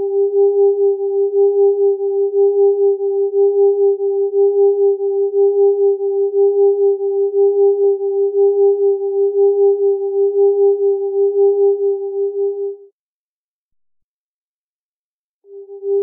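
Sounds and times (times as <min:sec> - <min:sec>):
beating electronic sine tones: 0:00.0 - 0:12.8, 0:15.5 - 0:16.0.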